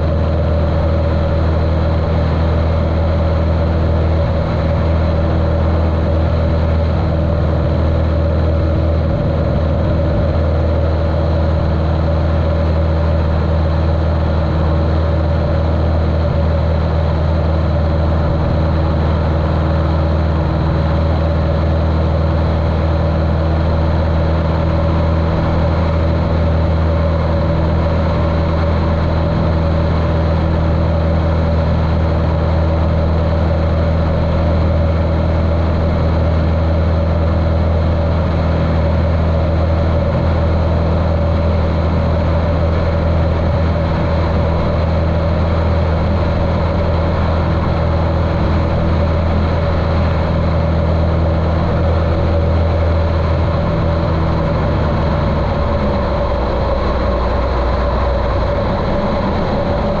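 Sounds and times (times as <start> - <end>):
muffled airplane engine in flight: 0.0 - 60.0.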